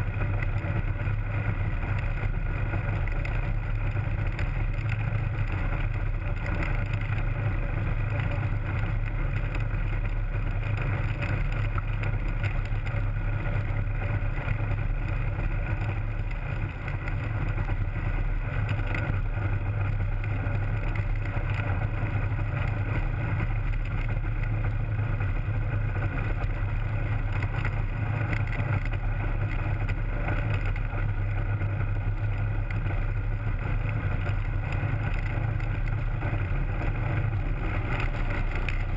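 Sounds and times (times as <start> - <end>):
aircraft propeller engine running: 0.0 - 38.9.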